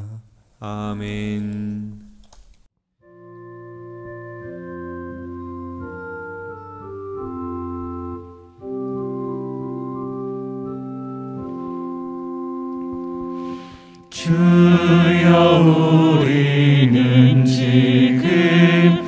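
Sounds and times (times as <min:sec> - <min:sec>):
organ playing held chords: 0:03.0 - 0:19.0.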